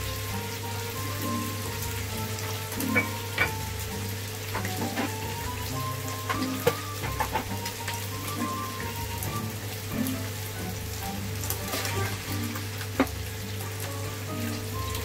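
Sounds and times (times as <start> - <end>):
meat sizzling with pops: 0.0 - 15.0.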